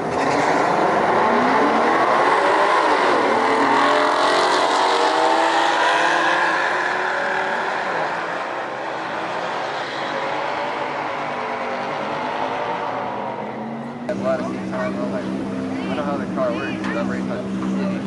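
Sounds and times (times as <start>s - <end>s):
car accelerating through gears: 0.0s - 18.0s.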